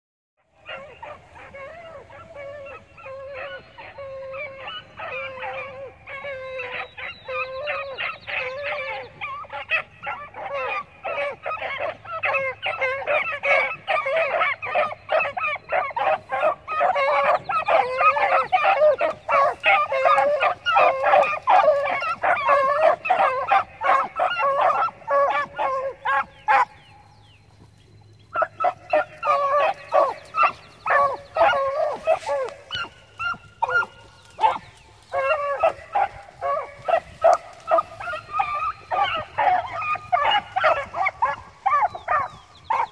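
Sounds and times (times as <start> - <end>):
hounds baying: 0.5 - 42.9.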